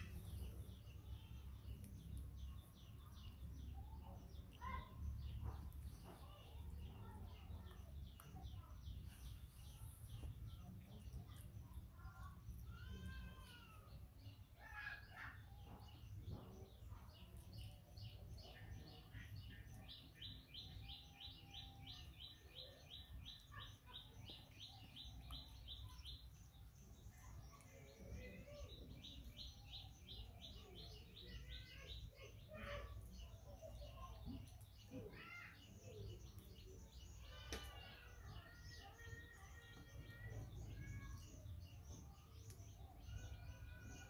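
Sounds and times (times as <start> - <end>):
faint birdsong: 0.0 - 44.0.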